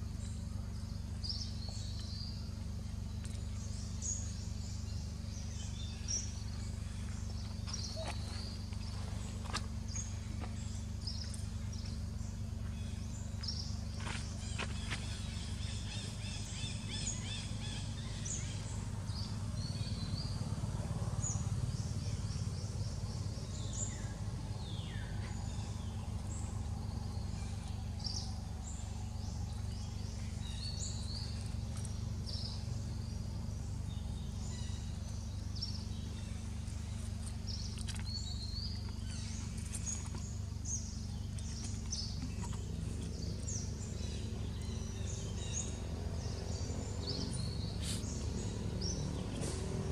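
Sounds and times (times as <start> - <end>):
steady low rumble: 0.0 - 49.9.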